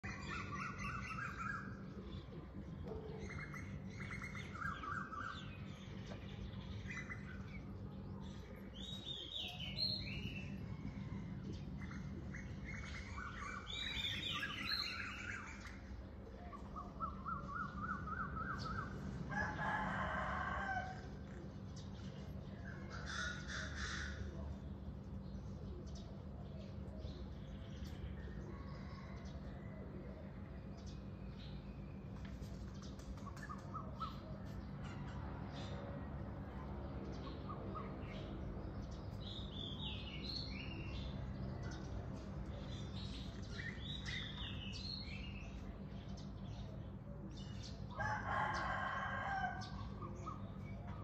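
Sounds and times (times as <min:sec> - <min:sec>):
steady low hum: 0:00.0 - 0:48.3
birds chirping and trilling: 0:00.0 - 0:51.0.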